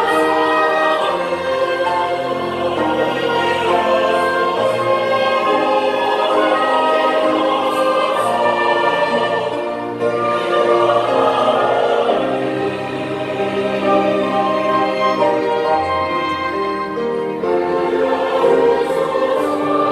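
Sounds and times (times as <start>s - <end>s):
church choir singing: 0.0s - 19.9s
violin accompaniment: 0.0s - 19.9s.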